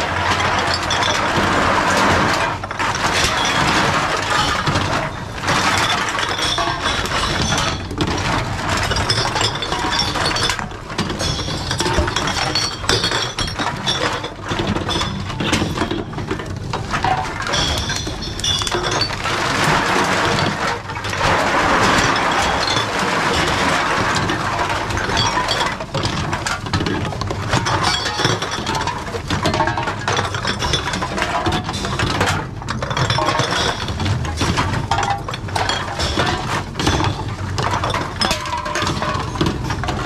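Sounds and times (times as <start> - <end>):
cans and glass clinking: 0.0 - 40.0.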